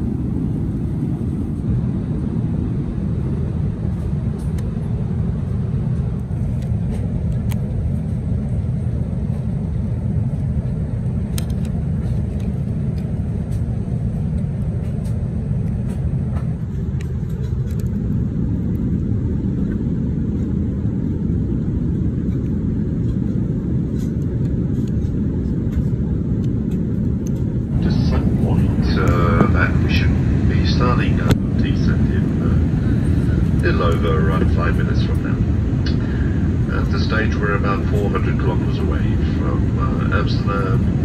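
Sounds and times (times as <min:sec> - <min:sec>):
aircraft cabin noise: 0:00.0 - 0:41.0.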